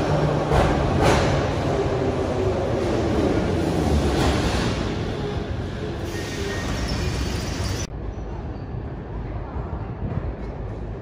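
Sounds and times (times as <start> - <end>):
hum of empty station hall: 0.0 - 11.0
metro train rumbling: 0.0 - 11.0.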